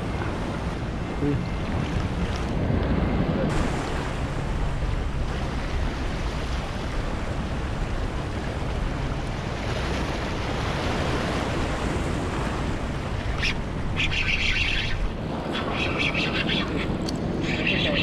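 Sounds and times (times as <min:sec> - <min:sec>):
wind buffeting microphone: 0:00.0 - 0:18.0
waves breaking over rocks: 0:01.2 - 0:18.0.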